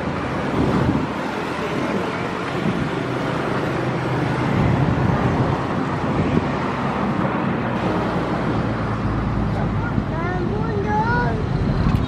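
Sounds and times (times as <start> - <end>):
locomotive diesel engine rumbling: 0.0 - 12.0.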